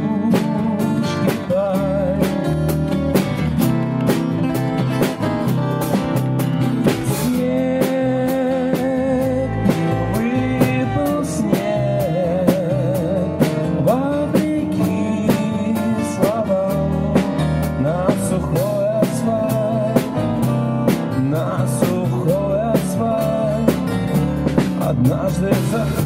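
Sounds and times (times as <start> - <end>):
electric bass: 0.0 - 26.0
strummed acoustic guitars: 0.0 - 26.0.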